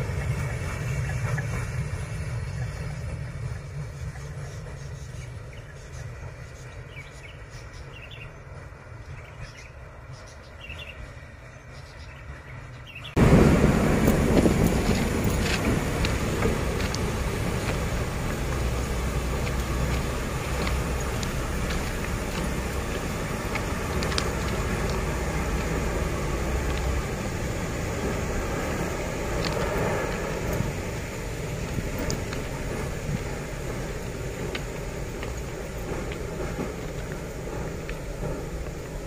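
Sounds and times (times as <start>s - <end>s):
diesel locomotive engine rumble: 0.0s - 39.0s
rail noise: 0.0s - 39.0s.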